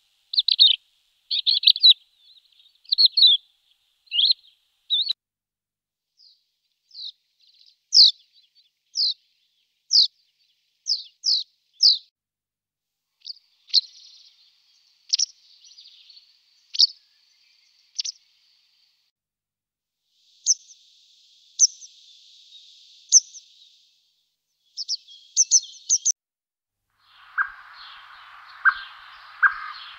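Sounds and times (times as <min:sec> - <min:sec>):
songbirds chirping: 0:00.0 - 0:05.2, 0:06.2 - 0:12.1, 0:13.2 - 0:19.1, 0:20.2 - 0:26.2, 0:27.0 - 0:29.9.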